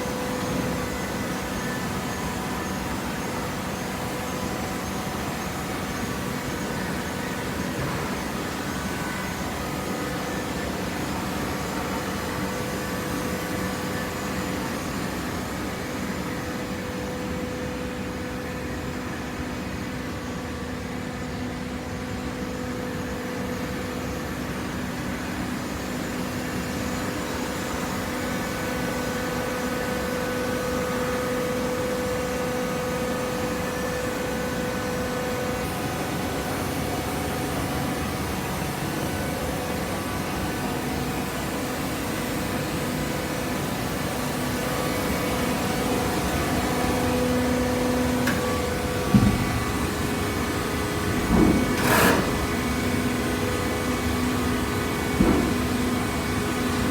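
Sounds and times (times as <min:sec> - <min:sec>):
hydraulic power unit hum: 0:00.0 - 0:56.9.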